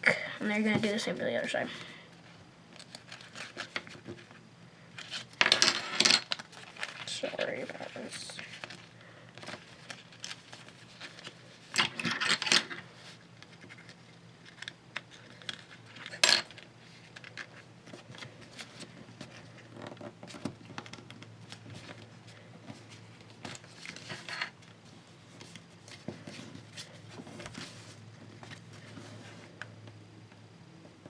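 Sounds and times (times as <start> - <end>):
faint steady hum: 0.0 - 31.0
paper folding and crinkling: 2.7 - 4.4, 6.2 - 29.7.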